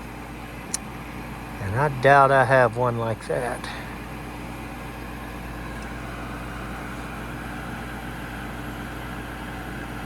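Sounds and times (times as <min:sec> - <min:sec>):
inducer motor humming: 0:00.0 - 0:10.0.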